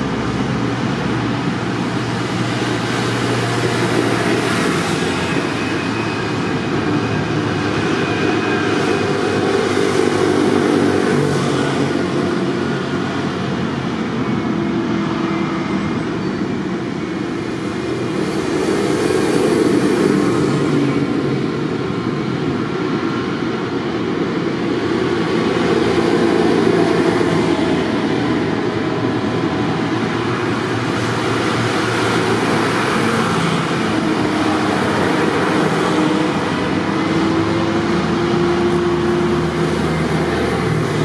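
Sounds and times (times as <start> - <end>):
tractor engines running: 0.0 - 41.0.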